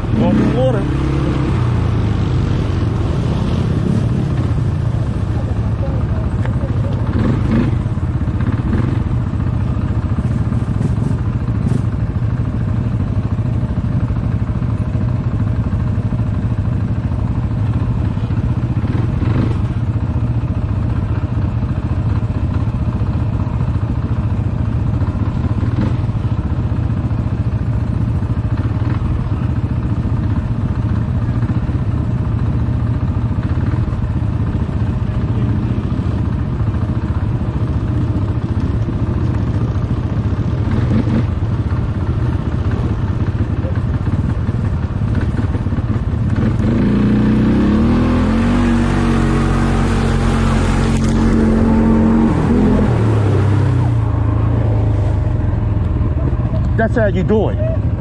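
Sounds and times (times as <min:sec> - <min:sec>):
atv engine droning: 0:00.0 - 0:58.0.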